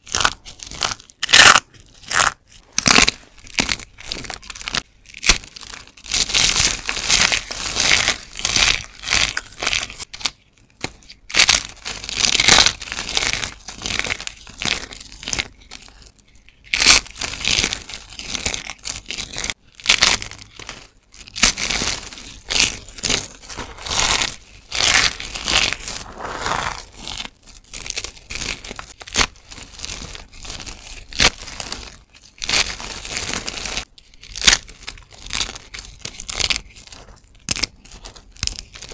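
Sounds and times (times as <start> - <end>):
hands crunching soap: 0.0 - 38.9.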